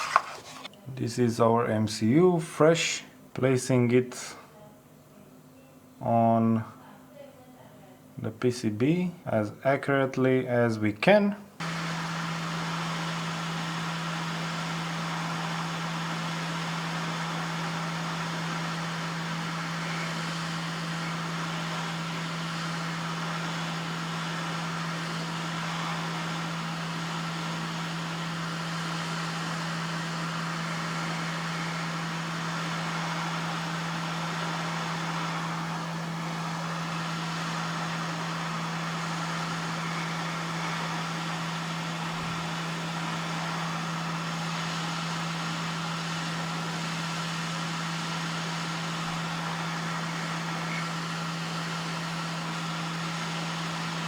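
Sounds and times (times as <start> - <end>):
electric fan blowing: 0.0 - 2.4, 11.6 - 54.0.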